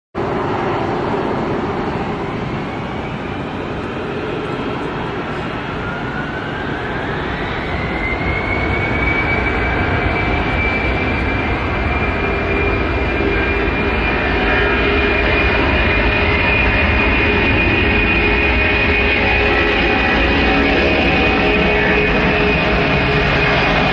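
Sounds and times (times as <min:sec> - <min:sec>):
aircraft engines running: 0:00.2 - 0:23.9
rising engine whine: 0:00.2 - 0:23.9.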